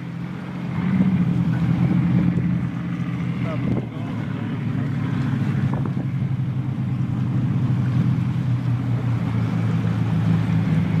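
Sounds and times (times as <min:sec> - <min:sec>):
speedboat engine drone: 0:00.0 - 0:11.0.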